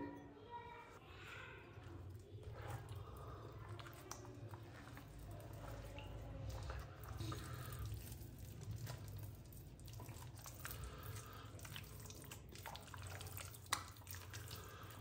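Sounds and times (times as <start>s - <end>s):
hand kneading wet fish mixture: 0.9s - 15.0s.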